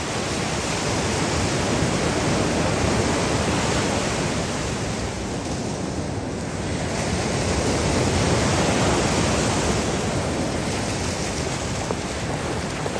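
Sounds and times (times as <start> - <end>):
ocean waves breaking: 0.0 - 12.9.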